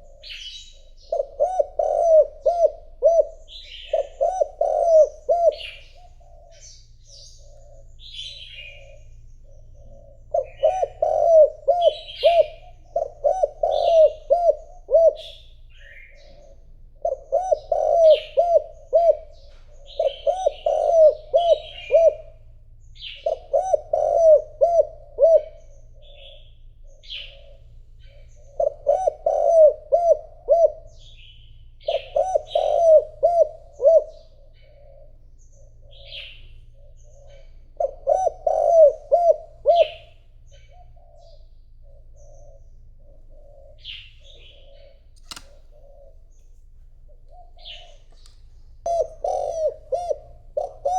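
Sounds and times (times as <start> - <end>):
dove cooing: 0.0 - 50.9
small birds chirping faintly: 0.0 - 50.9.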